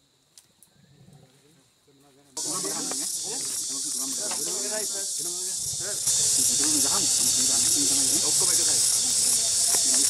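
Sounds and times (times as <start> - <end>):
insects hissing: 0.0 - 10.0
people talking: 1.2 - 10.0.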